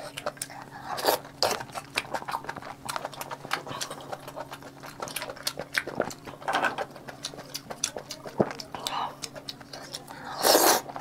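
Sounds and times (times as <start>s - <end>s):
wet chewing clicks and smacks: 0.0s - 11.0s.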